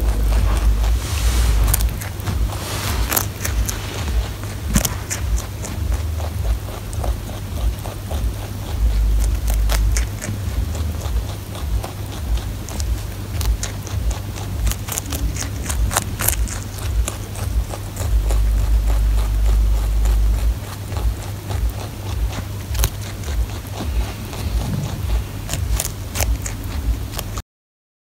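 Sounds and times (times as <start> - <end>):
low rumble: 0.0 - 27.4
rabbit crunching cauliflower: 0.0 - 27.4.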